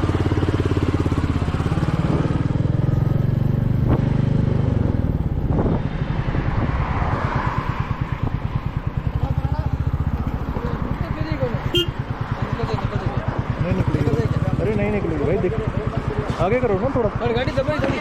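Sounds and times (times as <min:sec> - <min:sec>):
motorcycle engine exhaust beat: 0:00.0 - 0:05.8, 0:07.9 - 0:18.0.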